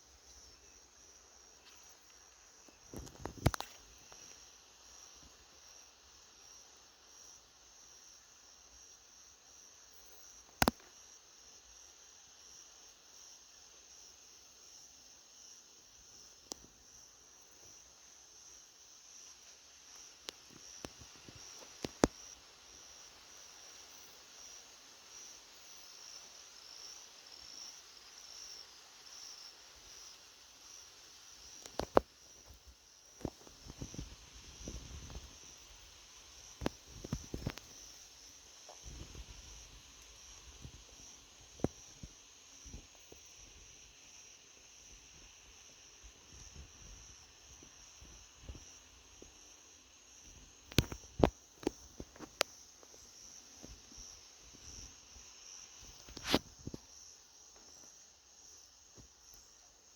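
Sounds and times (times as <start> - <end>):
cricket chirring: 0.0 - 59.9.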